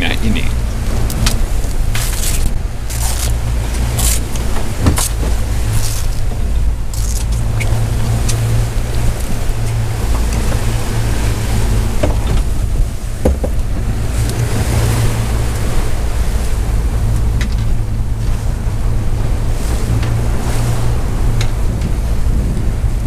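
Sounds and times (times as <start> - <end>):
boat engine humming: 0.0 - 23.0
wake water rushing: 0.0 - 23.0
wind on microphone: 0.0 - 23.0.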